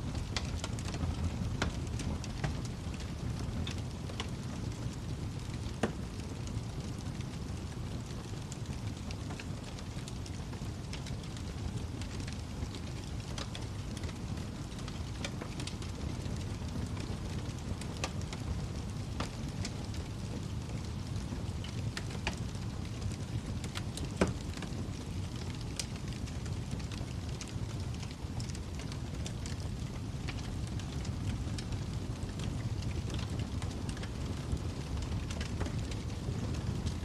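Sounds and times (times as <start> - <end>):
fire pops and snaps: 0.0 - 37.0
wood fire crackling: 0.0 - 37.0.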